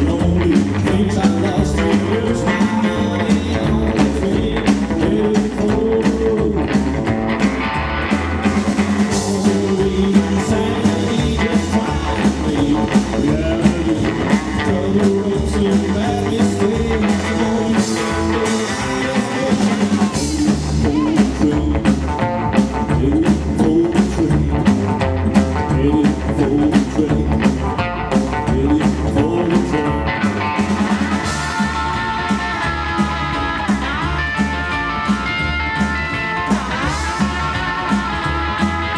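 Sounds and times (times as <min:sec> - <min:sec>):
drum kit beat: 0:00.0 - 0:38.9
electric guitar lead: 0:00.0 - 0:38.9
upright double bass: 0:00.0 - 0:38.9.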